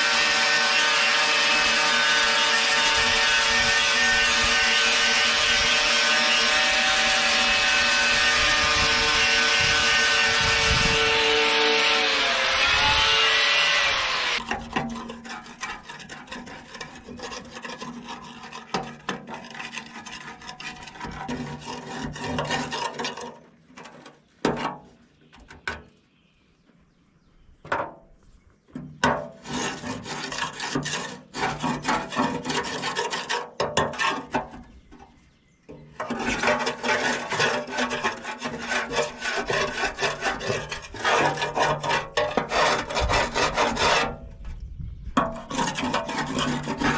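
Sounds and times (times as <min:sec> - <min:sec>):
scrubbing strokes on metal: 0:00.0 - 0:24.1, 0:29.1 - 0:34.7, 0:36.0 - 0:44.2, 0:45.2 - 0:46.9
knocks and scrapes: 0:00.0 - 0:26.0, 0:27.6 - 0:46.9.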